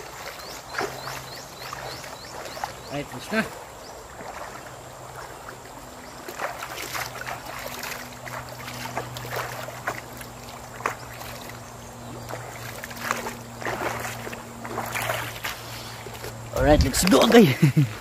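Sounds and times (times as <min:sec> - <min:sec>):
river water splashing: 0:00.0 - 0:18.0
steady low hum: 0:00.0 - 0:18.0.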